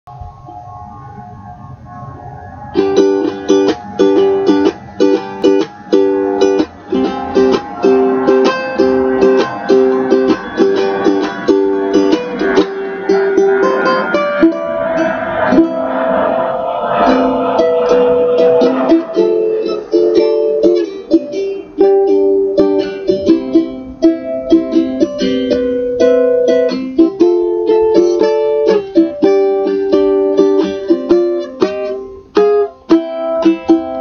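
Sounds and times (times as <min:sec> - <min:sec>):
ukulele strumming chords: 0:02.7 - 0:15.9, 0:17.1 - 0:34.0.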